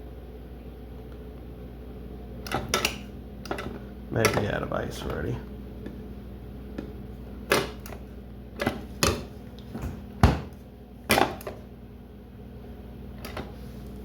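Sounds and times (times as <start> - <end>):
refrigerator low hum: 0.0 - 14.0.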